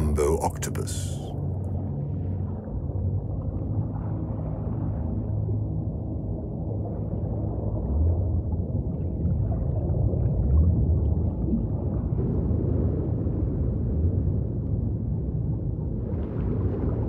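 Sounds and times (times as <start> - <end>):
deep low rumbling drone: 0.0 - 17.0.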